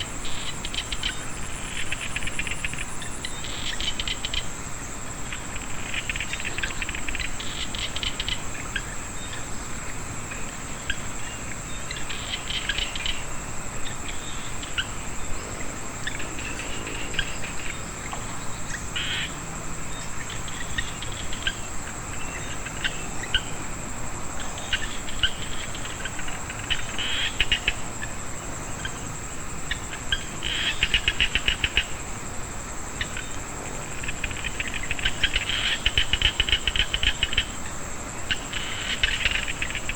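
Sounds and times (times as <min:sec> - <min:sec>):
rattling frog calls: 0:00.0 - 0:04.7, 0:05.3 - 0:09.4, 0:10.2 - 0:39.9
high-pitched insect drone: 0:00.0 - 0:39.9.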